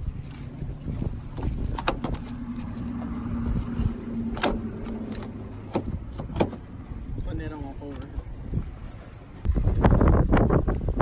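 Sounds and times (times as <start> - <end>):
low rumble with droning tone: 0.0 - 11.0.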